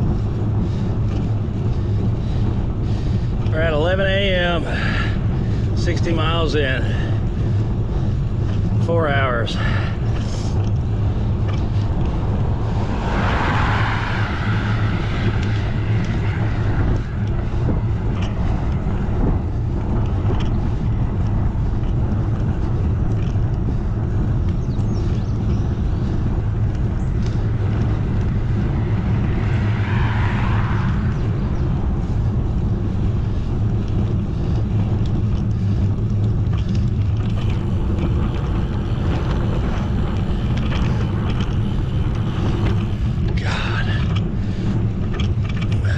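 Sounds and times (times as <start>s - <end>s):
low rumble from bicycle ride: 0.0s - 45.9s
wind rushing over microphone: 0.0s - 45.9s.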